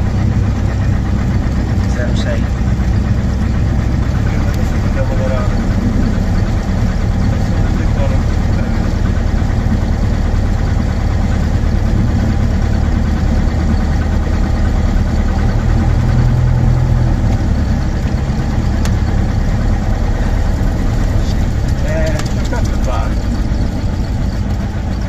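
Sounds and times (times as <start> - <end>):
propeller engine near idle: 0.0 - 25.0.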